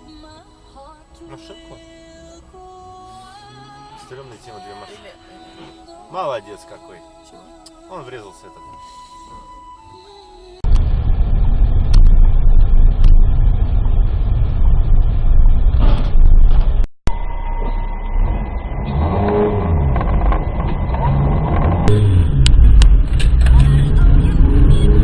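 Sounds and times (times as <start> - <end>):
car engine and road noise: 0.0 - 6.8, 7.4 - 25.0.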